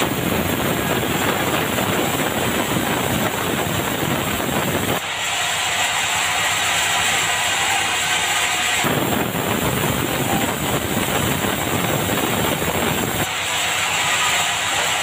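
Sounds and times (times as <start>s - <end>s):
band saw ripping wood: 0.0s - 12.2s, 12.9s - 15.0s
band saw running empty: 0.0s - 15.0s.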